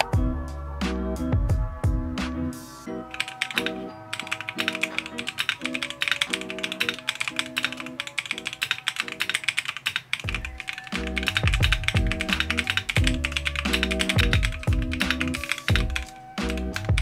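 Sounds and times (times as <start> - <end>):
mechanical keyboard typing: 3.1 - 17.0.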